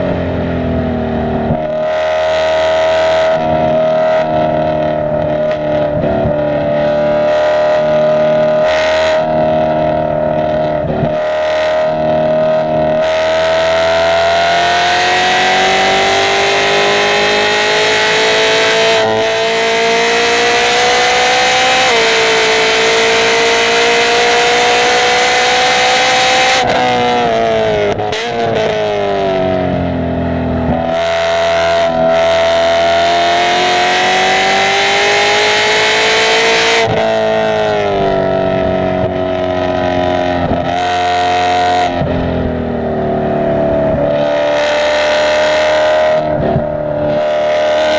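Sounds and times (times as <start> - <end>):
car braking and downshifting: 0.0 - 47.9
car engine accelerating: 0.0 - 47.9.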